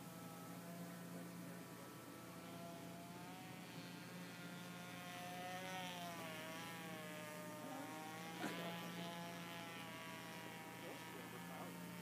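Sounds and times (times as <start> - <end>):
model plane engine whine: 0.0 - 12.0.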